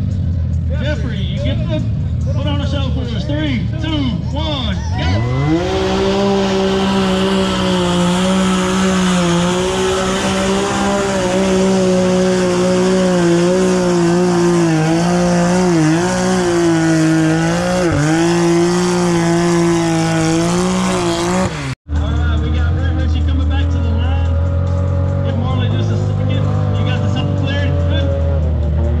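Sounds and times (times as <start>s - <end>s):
engine revving at high pitch: 5.0s - 21.8s, 22.4s - 29.0s.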